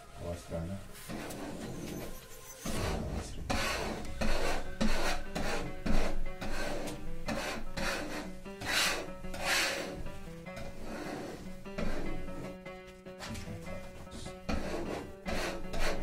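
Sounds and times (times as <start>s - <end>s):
faint music: 0.0s - 16.0s
rasping scraping strokes: 0.2s - 12.6s, 14.2s - 16.0s.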